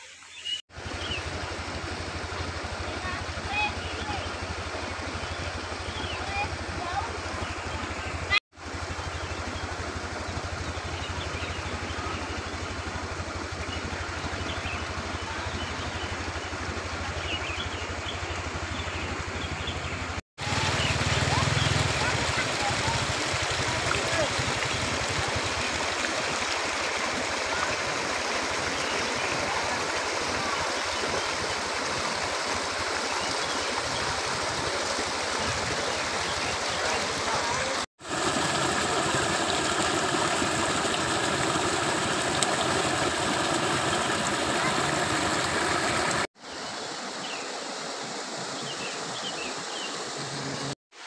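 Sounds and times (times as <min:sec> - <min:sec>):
brook cascading: 0:00.0 - 0:51.0
water gushing onto rocks: 0:00.7 - 0:17.2, 0:20.4 - 0:46.3
small engine idling: 0:00.7 - 0:46.3.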